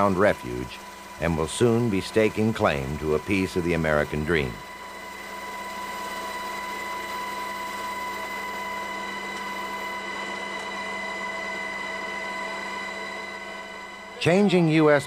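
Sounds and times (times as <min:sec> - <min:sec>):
engine drone with whine: 0:00.0 - 0:15.0.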